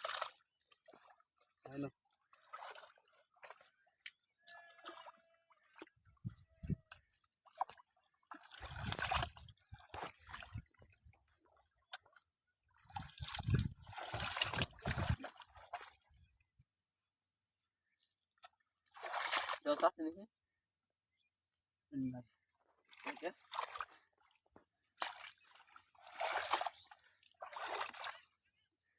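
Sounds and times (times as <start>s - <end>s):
pond water splashing: 0.0s - 16.4s, 18.4s - 20.1s, 22.6s - 28.9s.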